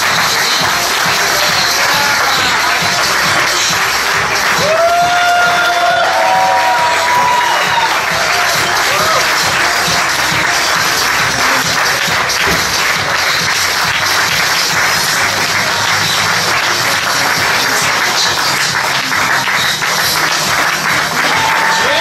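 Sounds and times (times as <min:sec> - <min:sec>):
crowd applauding: 0:00.0 - 0:22.0
music playing: 0:00.0 - 0:22.0.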